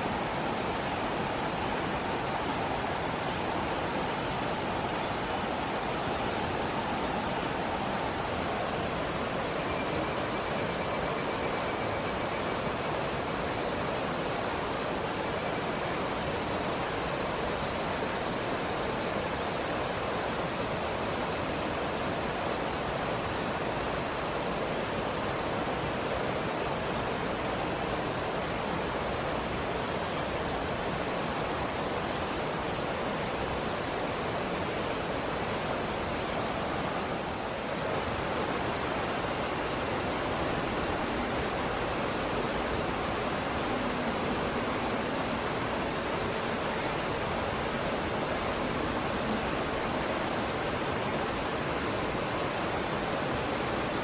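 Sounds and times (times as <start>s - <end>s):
background noise: 0.0s - 54.0s
high-pitched insect chorus: 0.0s - 54.0s.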